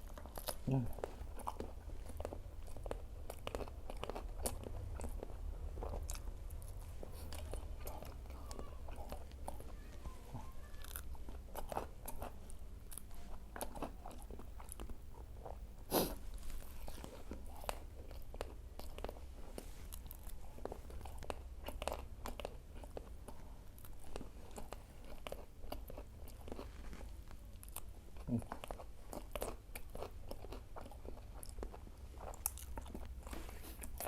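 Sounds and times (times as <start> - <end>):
chewing and crunching fried snacks: 0.0 - 34.0.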